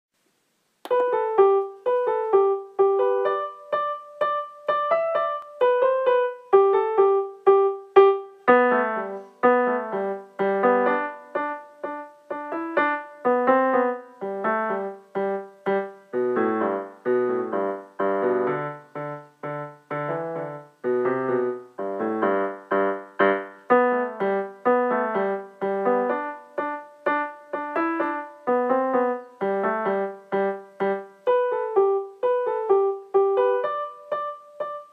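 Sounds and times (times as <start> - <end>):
piano music: 0.9 - 34.9.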